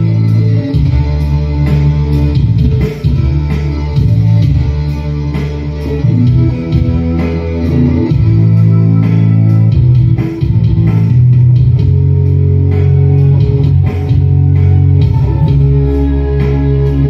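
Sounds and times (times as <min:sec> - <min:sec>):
pop song with guitar and heavy bass: 0:00.0 - 0:17.0.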